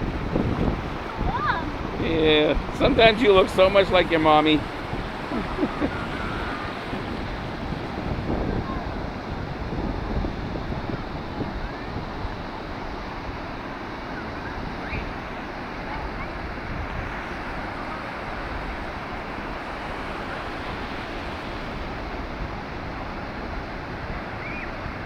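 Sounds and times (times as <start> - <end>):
ocean surf on beach: 0.0 - 25.0
wind buffeting microphone: 0.0 - 25.0.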